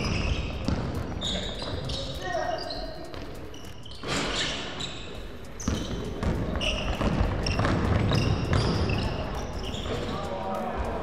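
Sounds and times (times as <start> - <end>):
basketball dribbling on floor: 0.0 - 4.5, 5.2 - 10.2
sneaker squeaks: 0.0 - 10.4.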